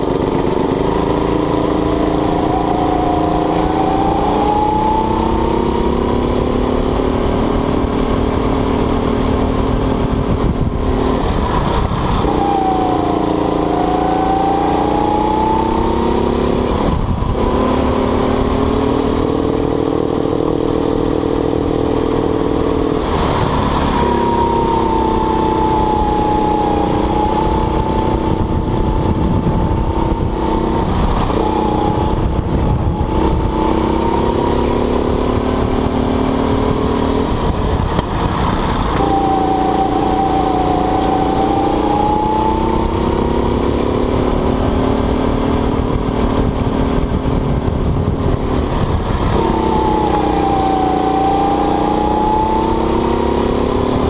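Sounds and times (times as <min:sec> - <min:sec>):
go-kart engine revving: 0:00.0 - 0:54.0
steady rumble: 0:00.0 - 0:54.0.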